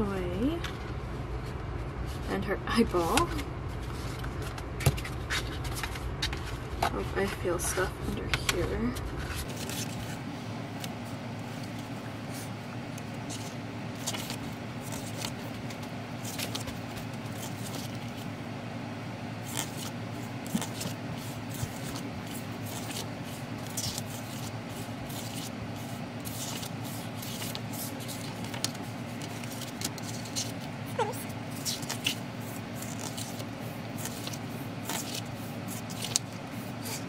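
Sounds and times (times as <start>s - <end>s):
low background hum: 0.0s - 37.0s
paper pages rustling: 3.3s - 7.4s, 8.0s - 18.3s, 19.4s - 37.0s.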